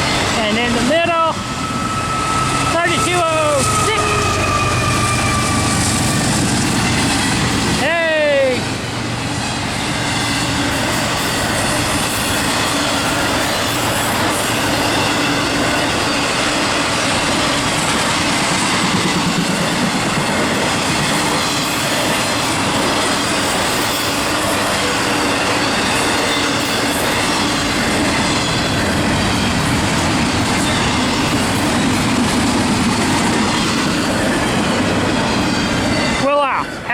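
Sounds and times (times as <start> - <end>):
freight train cars rolling past: 0.0 - 36.9.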